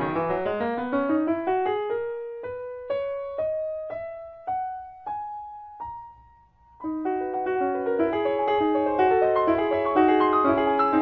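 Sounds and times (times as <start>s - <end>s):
solo grand piano notes: 0.0s - 11.0s.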